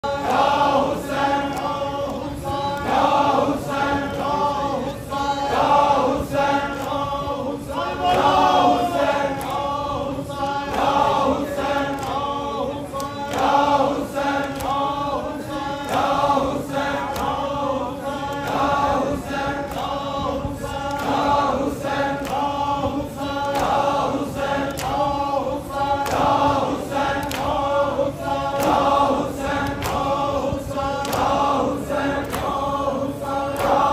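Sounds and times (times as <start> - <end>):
men chanting in unison: 0.0 - 33.9.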